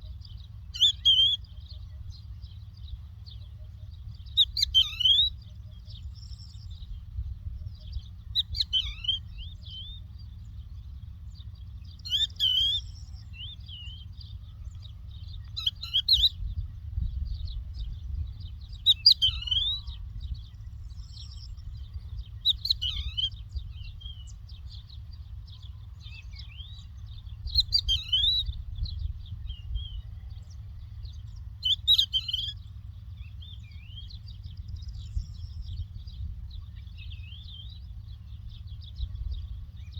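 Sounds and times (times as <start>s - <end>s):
lark singing: 0.0s - 39.9s
low steady rumble: 0.0s - 39.9s.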